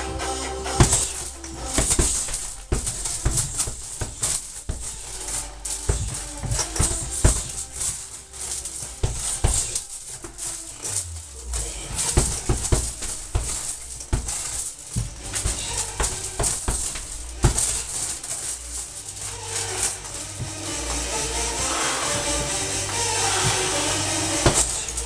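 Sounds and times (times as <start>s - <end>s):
gloves smacking punching bag: 0.8s - 21.2s, 24.3s - 25.0s.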